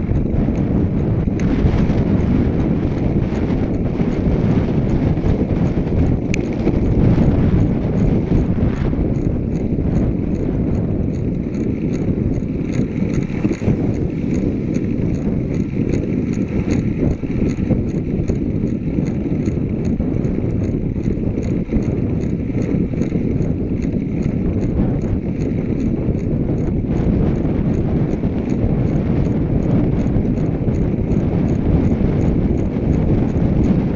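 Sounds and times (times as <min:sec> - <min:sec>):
light regular ticking: 0:00.0 - 0:33.9
road rumble: 0:00.0 - 0:33.9
wind on microphone: 0:00.0 - 0:33.9.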